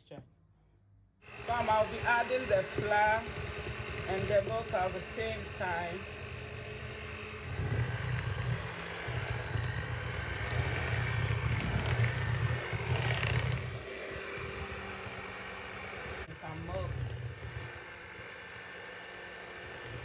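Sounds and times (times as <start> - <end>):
electric hand mixer running: 1.2 - 20.0.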